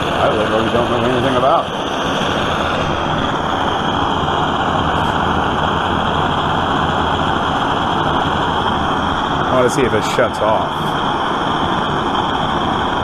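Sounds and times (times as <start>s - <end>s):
blowtorch flame rushing: 0.0s - 13.0s.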